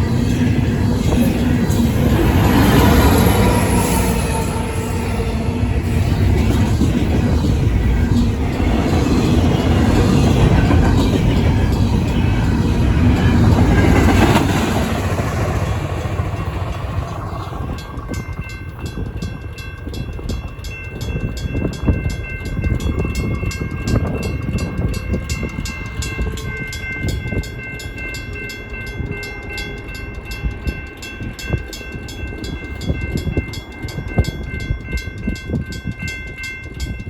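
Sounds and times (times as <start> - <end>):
train wheels clacking over rails: 0.0 - 37.0
electronic crossing bell: 1.5 - 13.8, 16.1 - 37.0
mechanical crossing bell: 1.5 - 14.3, 15.6 - 37.0.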